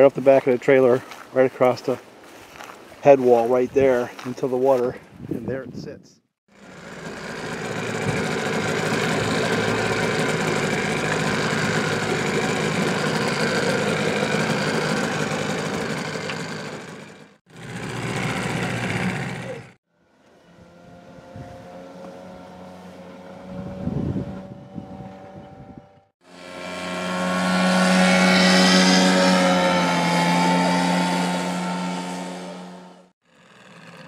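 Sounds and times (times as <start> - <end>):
outboard motor idling: 6.5 - 34.0.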